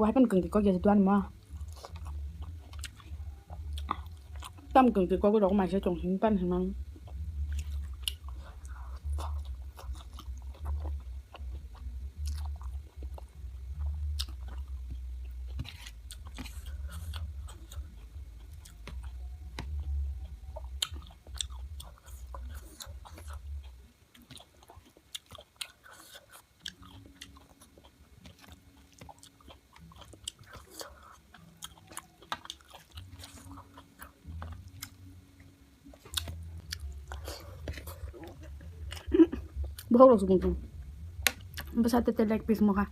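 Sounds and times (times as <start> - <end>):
chewing and biting chicken: 1.5 - 4.7, 7.0 - 35.0, 35.9 - 39.9.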